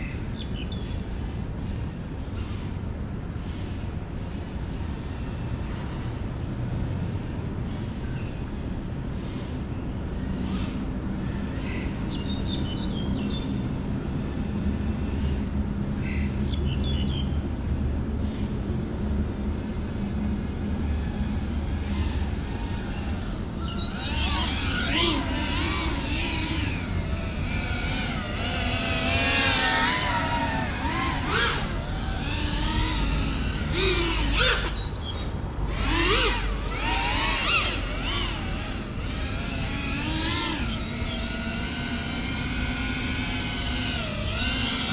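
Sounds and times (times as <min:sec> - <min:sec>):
quadcopter propellers whining: 0:07.1 - 0:44.9.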